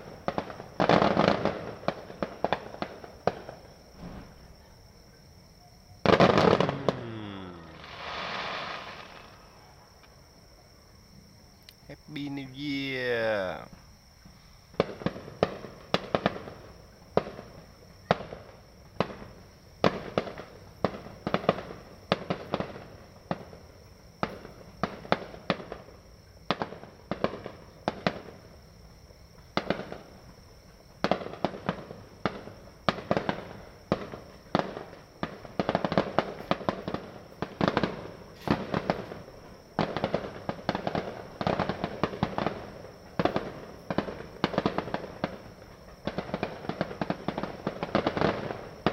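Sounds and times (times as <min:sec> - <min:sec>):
fireworks bursting: 0:00.0 - 0:04.6, 0:06.0 - 0:10.2, 0:11.9 - 0:28.6, 0:29.3 - 0:48.9.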